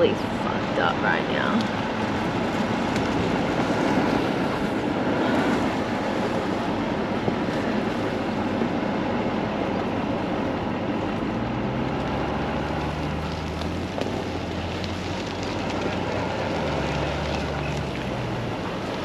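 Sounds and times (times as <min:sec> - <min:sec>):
vehicle engine and tyres rumbling: 0:00.0 - 0:19.0.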